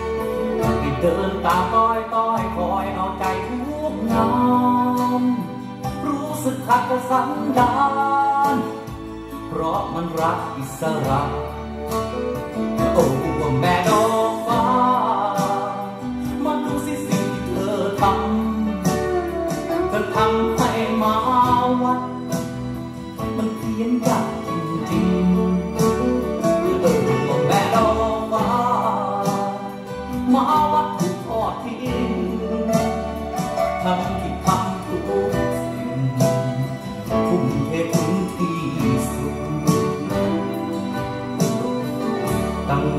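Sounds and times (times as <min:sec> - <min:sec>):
song from vinyl record: 0:00.0 - 0:42.9.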